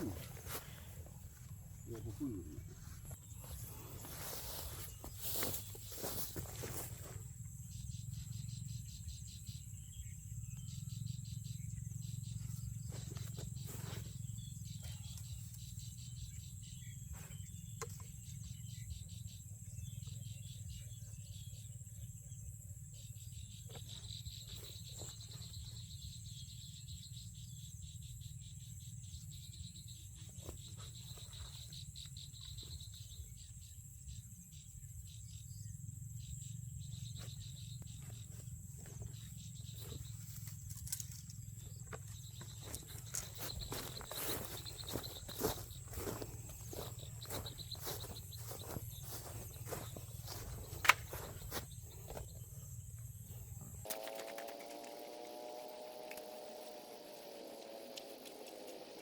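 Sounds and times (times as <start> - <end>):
insect pulsing trill: 0.0 - 59.0
insects droning: 0.0 - 59.0.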